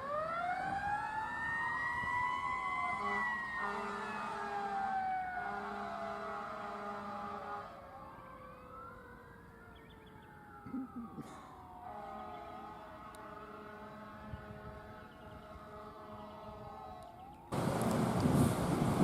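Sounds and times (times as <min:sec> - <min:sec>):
emergency vehicle sirens wailing: 0:00.0 - 0:19.0.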